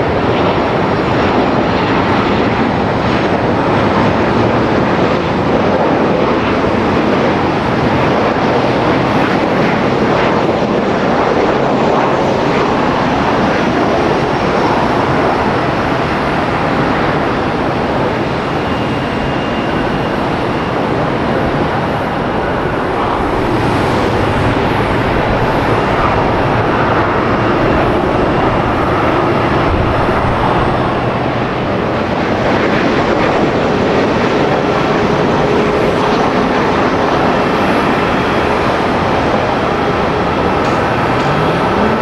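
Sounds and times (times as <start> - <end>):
faint engine whine: 0.0 - 42.0
jet engines running: 0.0 - 42.0.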